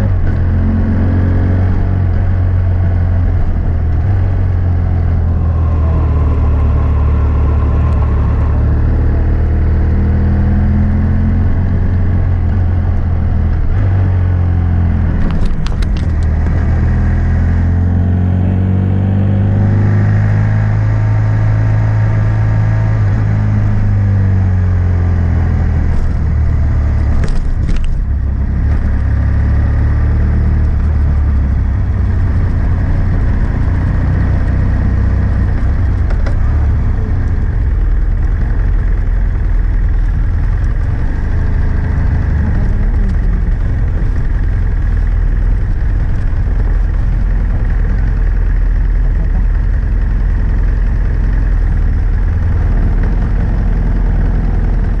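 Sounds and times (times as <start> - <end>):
motorcycle engine exhaust note: 0.0 - 55.0.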